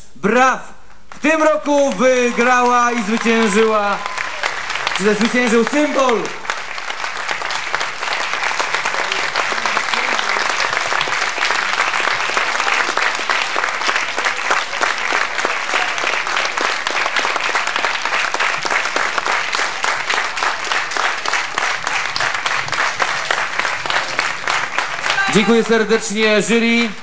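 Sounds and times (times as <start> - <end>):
audience applauding: 1.8 - 27.0.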